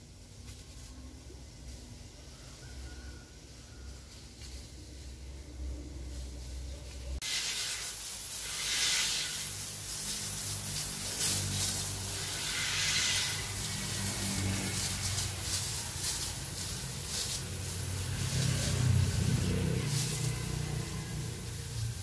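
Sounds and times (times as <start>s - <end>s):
spray wand hissing: 0.0s - 22.0s
sprayer pump humming: 0.0s - 22.0s.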